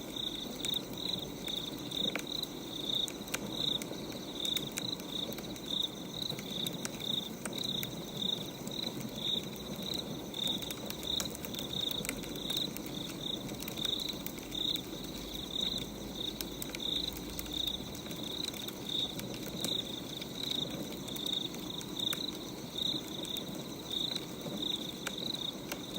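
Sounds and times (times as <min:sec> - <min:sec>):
cricket chirping: 0:00.0 - 0:25.9
steady fire hiss: 0:00.0 - 0:25.9
wood fire crackling: 0:00.0 - 0:25.9.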